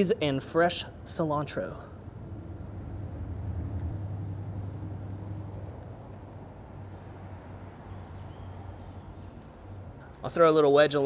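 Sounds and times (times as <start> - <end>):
low steady hum: 0.2 - 10.2.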